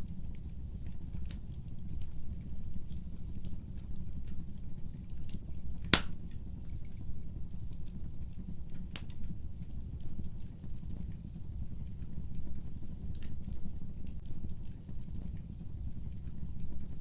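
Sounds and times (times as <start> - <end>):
fire crackles and pops: 0.0 - 17.0
flame rumble: 0.0 - 17.0.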